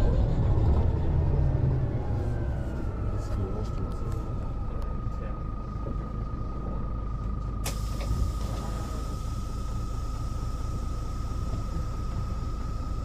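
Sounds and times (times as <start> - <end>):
bus diesel engine idling: 0.0 - 13.0
high whine: 0.0 - 13.0.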